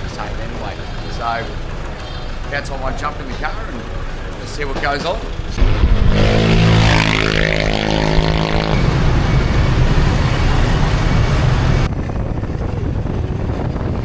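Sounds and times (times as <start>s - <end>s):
car engine accelerating: 0.0s - 14.0s
road and wind noise: 0.0s - 14.0s.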